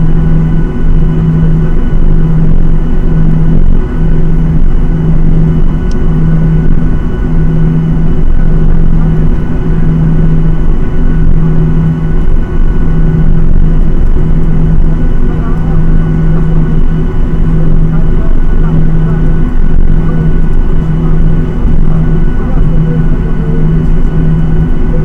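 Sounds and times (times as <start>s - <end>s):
jet engines droning in cabin: 0.0s - 25.0s.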